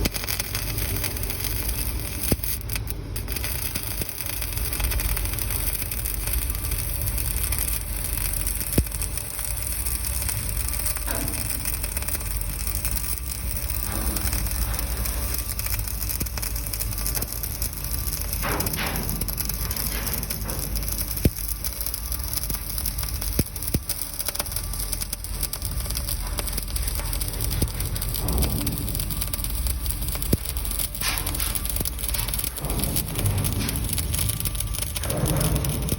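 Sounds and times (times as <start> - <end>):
welding arc crackling: 0.0 - 35.9.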